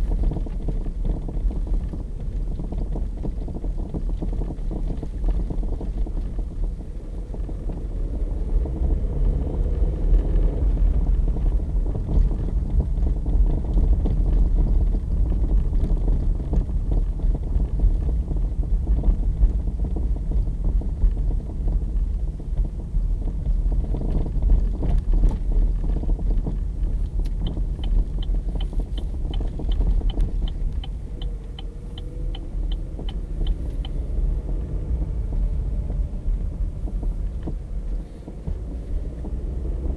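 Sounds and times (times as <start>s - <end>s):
car road rumble: 0.0s - 39.9s
light regular ticking: 0.0s - 39.9s.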